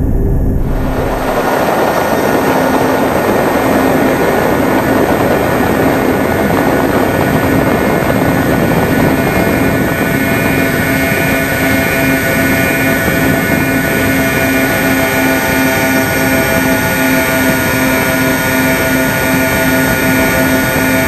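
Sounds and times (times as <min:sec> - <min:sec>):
electric motors humming: 0:00.0 - 0:21.0
wind rushing over model plane: 0:00.0 - 0:21.0.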